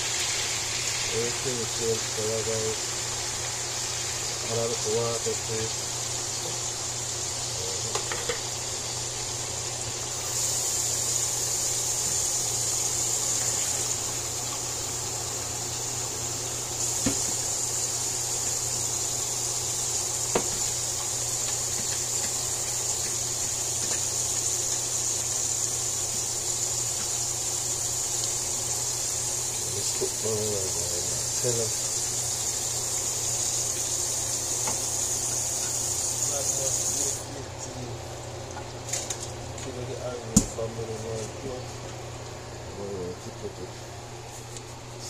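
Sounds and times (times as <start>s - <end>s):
food sizzling in a pot: 0.0s - 40.5s.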